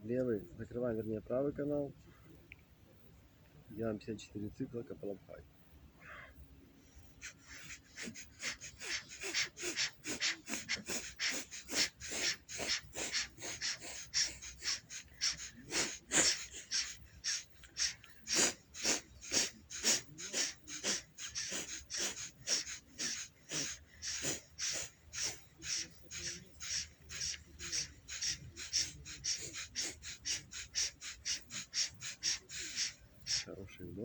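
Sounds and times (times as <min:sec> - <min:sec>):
forceful nasal exhalations: 0:06.0 - 0:33.6.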